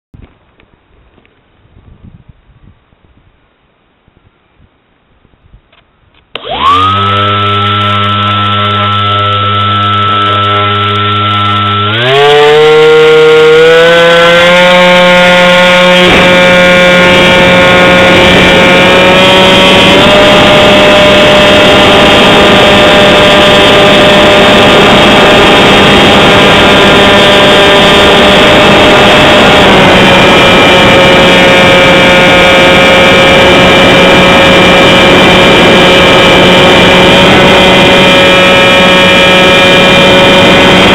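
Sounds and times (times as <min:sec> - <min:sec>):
model airplane motor whining: 0:06.3 - 0:40.9.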